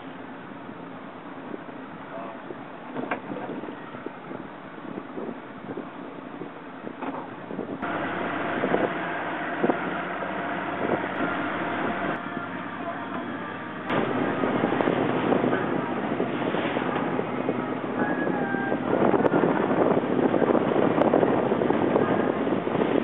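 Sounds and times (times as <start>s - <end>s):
motorboat engine running: 0.0s - 23.0s
wind buffeting microphone: 2.4s - 23.0s.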